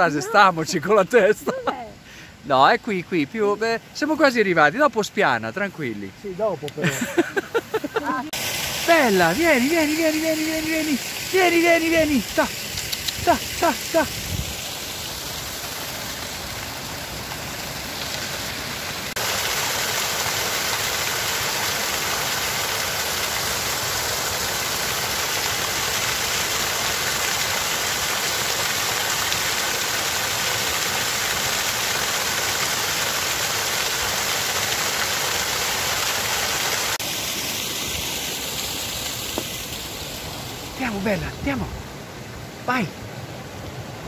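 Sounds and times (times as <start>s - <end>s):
waterfall splashing onto stones: 0.0s - 43.9s.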